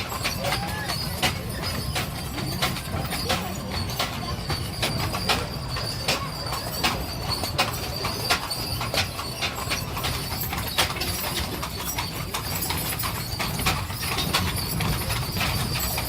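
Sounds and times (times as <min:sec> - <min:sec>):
horse hooves clip-clopping: 0:00.0 - 0:16.0
low rumble of rolling coach: 0:00.0 - 0:16.0.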